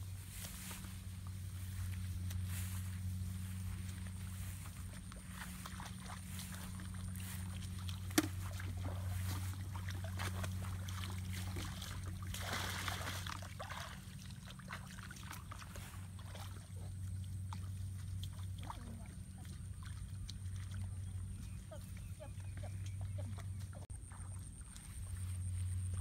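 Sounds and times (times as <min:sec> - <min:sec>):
steady low hum: 0:00.0 - 0:26.0
water splashing and trickling: 0:00.0 - 0:26.0.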